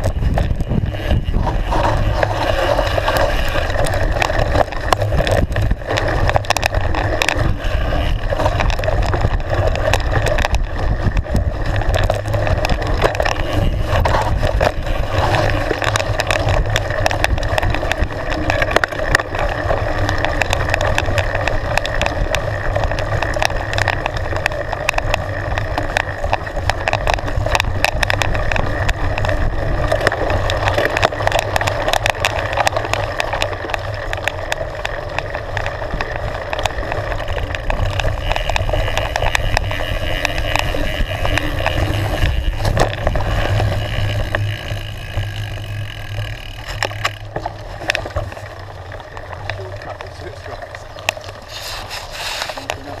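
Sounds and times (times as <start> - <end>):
wind on microphone: 0.0 - 48.6
bike rattling over bumps: 0.0 - 53.0
bike tyres rolling over dirt: 0.0 - 53.0.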